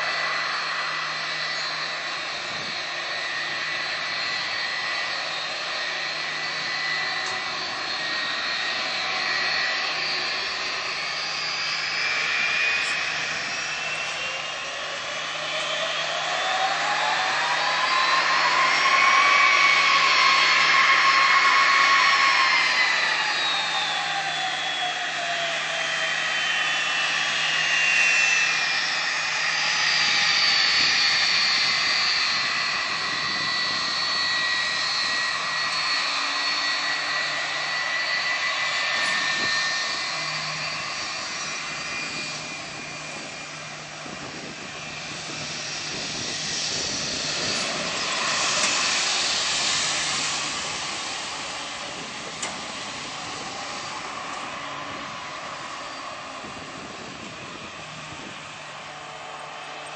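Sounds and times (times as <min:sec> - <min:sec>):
high engine whine: 0:00.0 - 0:59.9
jet airliner passing overhead: 0:00.0 - 0:59.9.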